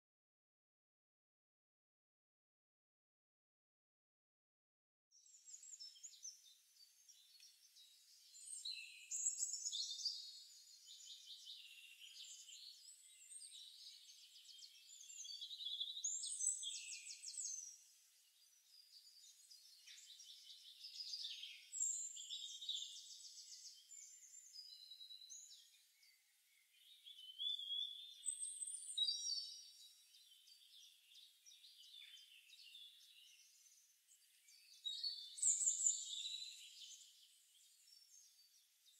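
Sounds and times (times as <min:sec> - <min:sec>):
birds chirping and trilling: 0:05.2 - 0:38.9.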